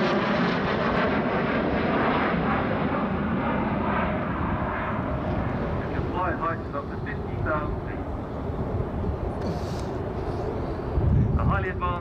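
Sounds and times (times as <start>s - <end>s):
jet fighter engine roar: 0.0s - 12.0s.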